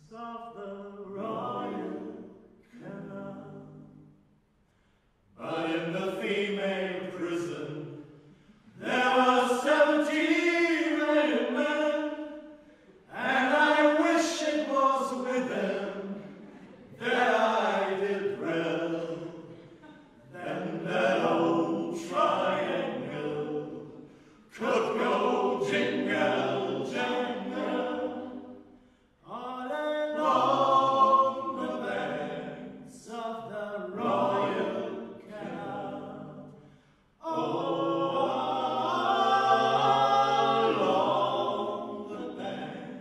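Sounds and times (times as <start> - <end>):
male vocal group singing: 0.0 - 4.0, 5.4 - 8.0, 8.7 - 12.3, 13.0 - 28.5, 29.2 - 36.6, 37.2 - 43.0.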